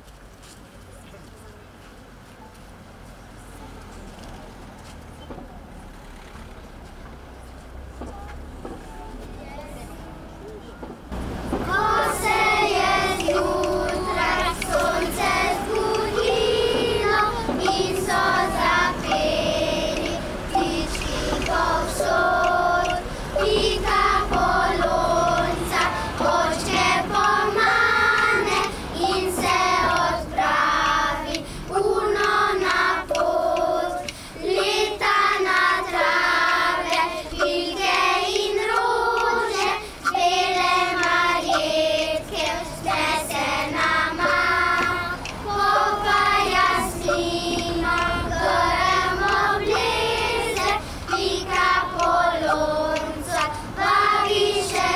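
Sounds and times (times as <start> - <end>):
children's choir singing: 7.0 - 54.9.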